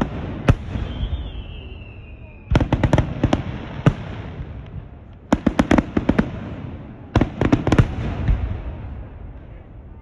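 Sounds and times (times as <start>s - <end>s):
fireworks crackling: 0.0s - 9.6s.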